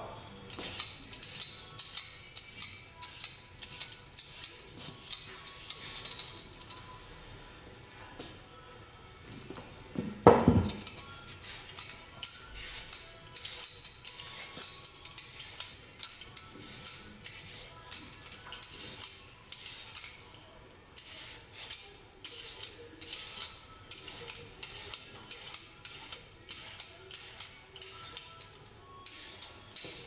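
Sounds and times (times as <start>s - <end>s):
background music with shaker rhythm: 0.4s - 8.5s, 9.2s - 20.4s, 21.0s - 30.0s
peeler scraping a carrot: 0.5s - 6.5s, 10.7s - 20.3s, 21.0s - 30.0s.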